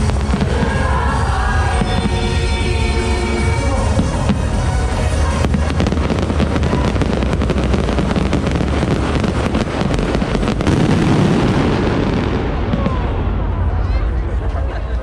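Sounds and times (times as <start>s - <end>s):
fireworks bangs and crackles: 0.0s - 14.6s.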